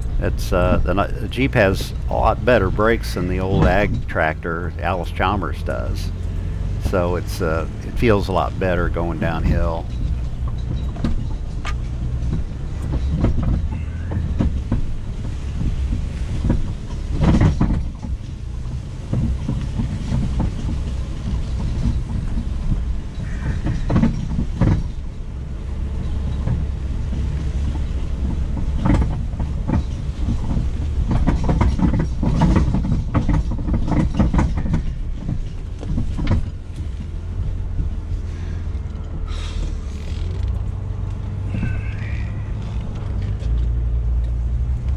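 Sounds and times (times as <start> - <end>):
hitch clanking and rattling: 0.0 - 44.9
low engine drone: 0.0 - 44.9.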